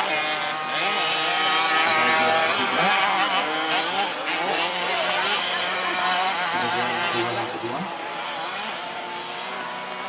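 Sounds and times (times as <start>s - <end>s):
motocross bike engine revving: 0.0s - 10.0s.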